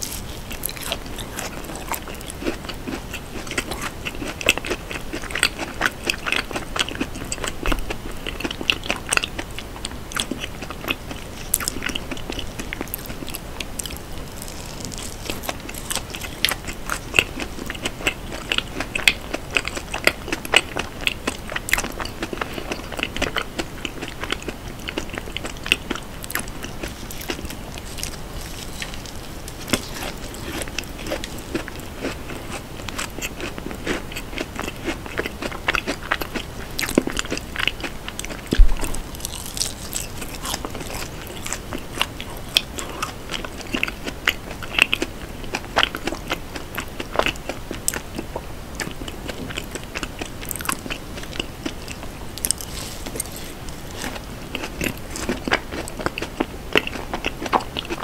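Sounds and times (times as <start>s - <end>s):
wet sticky chewing: 0.0s - 58.0s.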